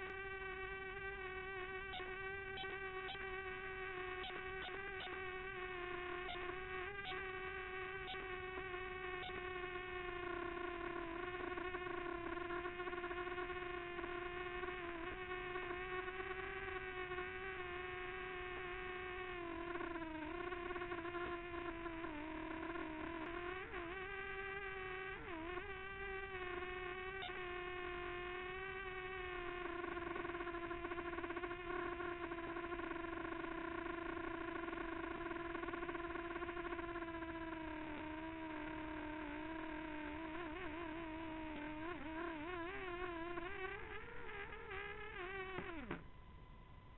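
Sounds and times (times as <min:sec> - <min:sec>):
drone propellers whining: 0:00.0 - 0:46.9.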